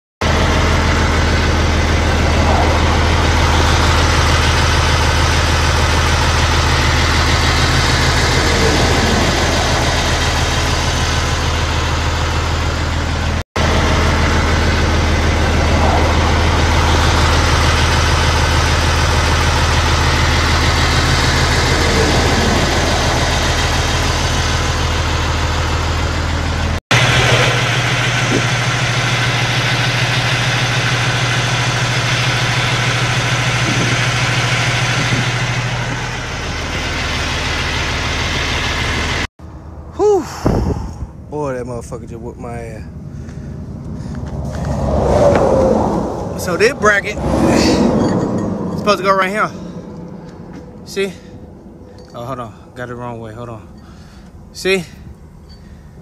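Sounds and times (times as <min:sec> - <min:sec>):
truck engine idling: 0:00.2 - 0:56.0.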